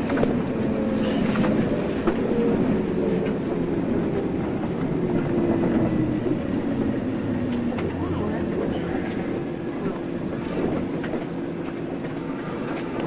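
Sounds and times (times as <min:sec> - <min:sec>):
train rolling noise: 0:00.0 - 0:13.0.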